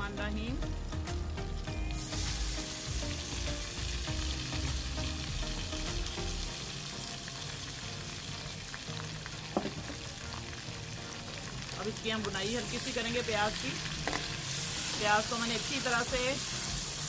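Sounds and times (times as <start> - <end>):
onion sizzling in pan: 0.0 - 17.0.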